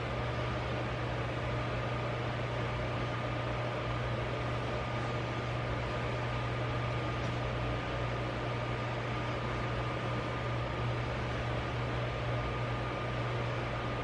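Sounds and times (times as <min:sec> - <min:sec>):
machine hum with hiss: 0:00.0 - 0:14.0.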